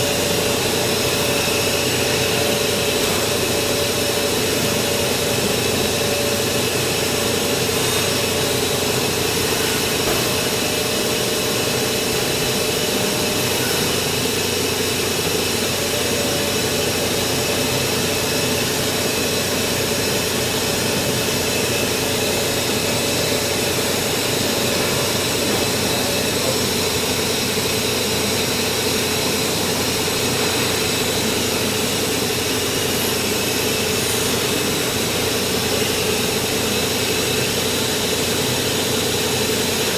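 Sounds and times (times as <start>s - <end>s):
milling machine humming: 0.0s - 39.9s.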